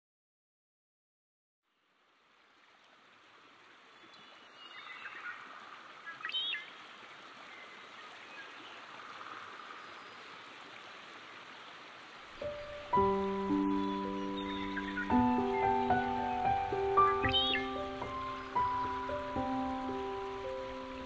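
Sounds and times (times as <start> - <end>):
flowing water hiss: 1.8 - 21.0.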